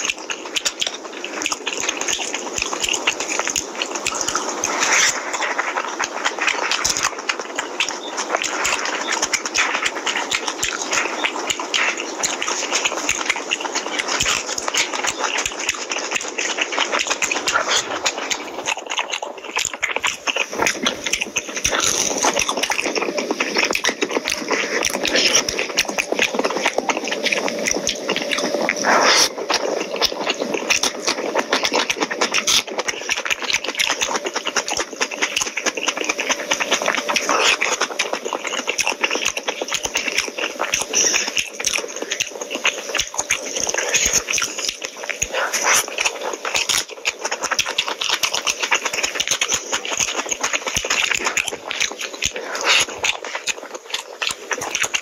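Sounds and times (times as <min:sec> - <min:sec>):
small clicks and crackles: 0:00.0 - 0:55.0
wet chewing and smacking: 0:00.0 - 0:55.0.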